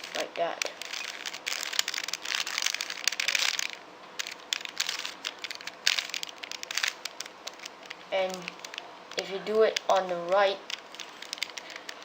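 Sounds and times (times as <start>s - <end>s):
puzzle cube clicking and rattling: 0.0s - 12.0s.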